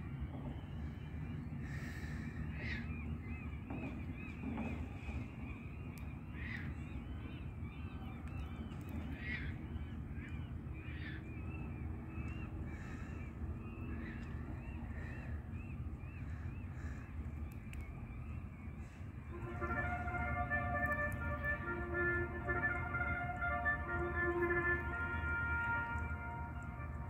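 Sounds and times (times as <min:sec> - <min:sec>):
birds calling: 0:00.0 - 0:27.0
low background rumble: 0:00.0 - 0:27.0.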